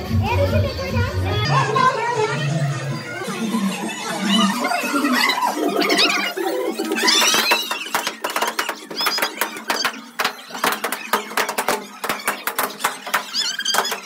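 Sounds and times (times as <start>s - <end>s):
children shrieking: 1.5s - 14.0s.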